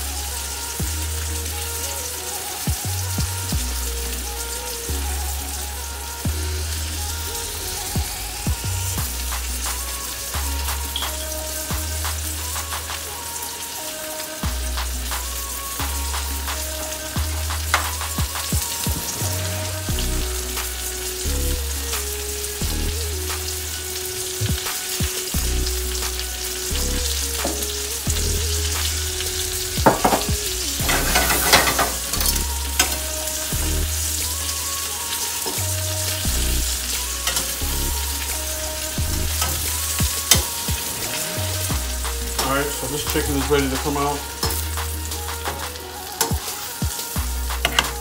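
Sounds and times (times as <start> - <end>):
chicken sizzling in oil: 0.0 - 48.0
soft background music: 0.0 - 48.0.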